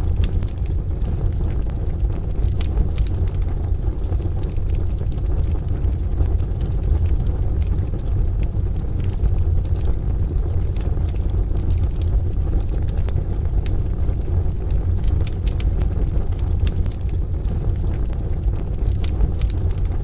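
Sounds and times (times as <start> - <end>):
deep steady rumble: 0.0 - 20.0
rain: 0.0 - 20.0
wood fire crackling: 0.0 - 20.0.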